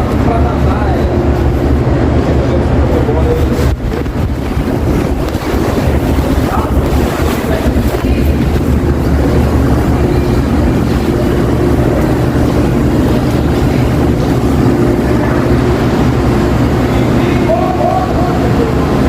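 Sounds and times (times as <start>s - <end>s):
background murmur: 0.0s - 19.0s
steady low hum: 0.0s - 19.0s.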